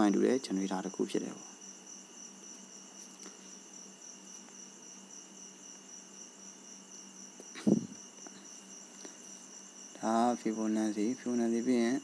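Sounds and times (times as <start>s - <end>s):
cricket trill: 0.0s - 12.0s.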